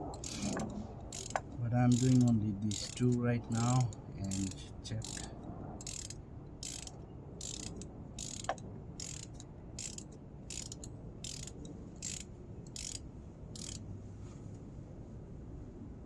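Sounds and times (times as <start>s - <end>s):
ratchet wrench clicking: 0.0s - 13.8s.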